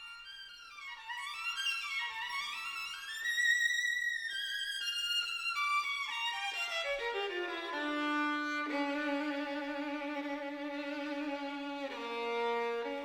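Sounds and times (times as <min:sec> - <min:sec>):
violin melody: 0:00.0 - 0:13.0.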